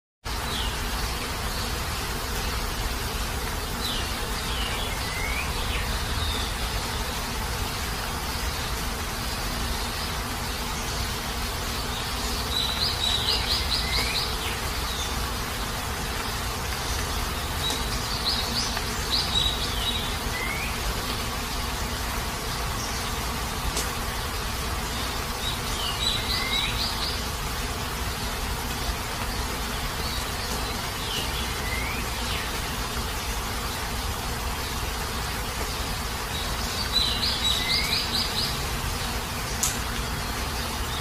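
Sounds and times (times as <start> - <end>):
heavy rain: 0.2 - 41.0.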